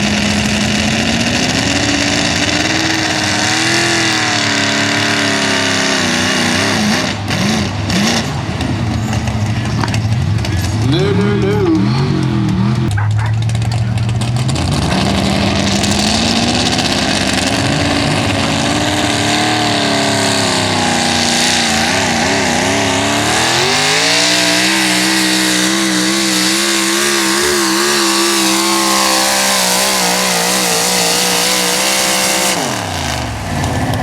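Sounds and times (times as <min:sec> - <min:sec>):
truck engine at full throttle: 0:00.0 - 0:34.0.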